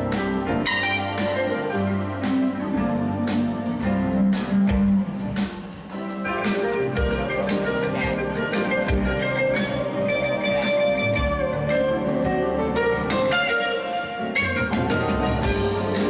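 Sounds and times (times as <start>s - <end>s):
bass: 0.0s - 16.0s
guitar: 0.0s - 16.0s.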